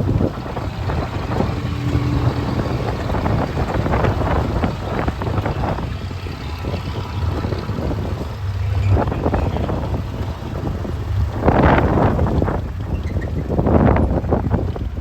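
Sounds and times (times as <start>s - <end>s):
vehicle rumbling: 0.0s - 15.0s
wind buffeting microphone: 0.0s - 15.0s.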